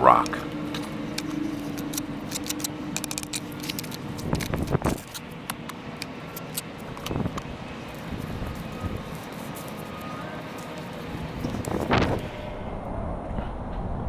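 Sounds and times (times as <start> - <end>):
clicks and scrapes: 0.0 - 12.6
scuffing handling noise: 0.0 - 12.6.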